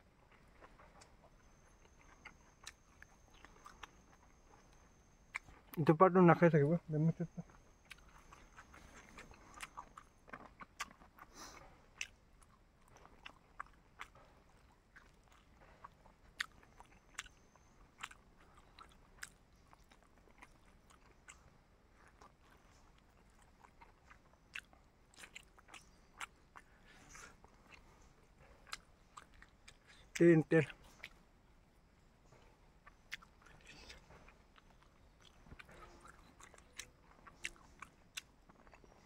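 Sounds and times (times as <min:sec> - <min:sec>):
person chewing food: 0:00.1 - 0:05.8, 0:07.2 - 0:39.0.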